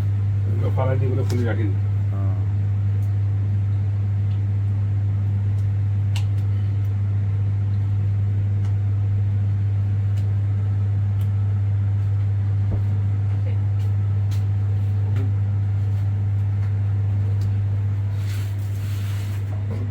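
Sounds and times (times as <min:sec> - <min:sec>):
loud low hum: 0:00.0 - 0:19.9.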